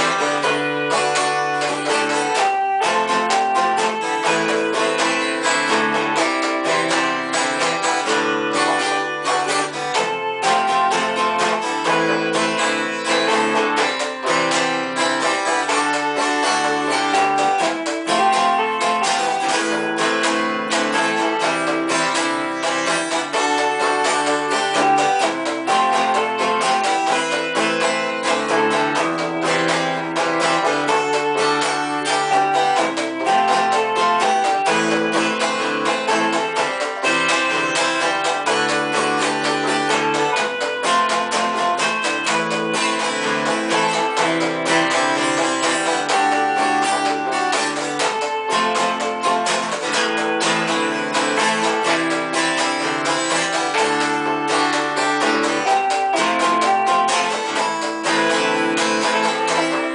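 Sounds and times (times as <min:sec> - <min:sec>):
acoustic guitar strumming: 0:00.0 - 0:59.9
toy keyboards held notes: 0:00.0 - 0:59.9.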